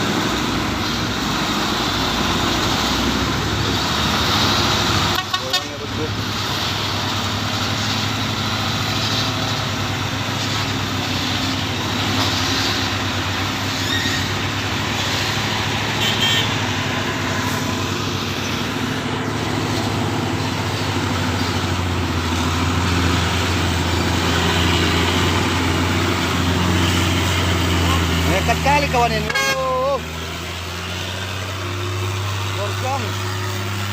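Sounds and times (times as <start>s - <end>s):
heavy truck engine under load: 0.0s - 33.9s
passing road traffic: 0.0s - 33.9s.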